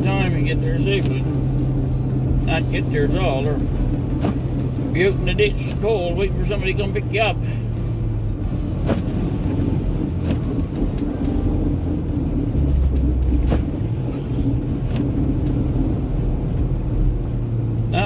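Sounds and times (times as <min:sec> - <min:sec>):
tyres on snowy road: 0:00.0 - 0:18.0
vehicle rumble from inside: 0:00.0 - 0:18.0.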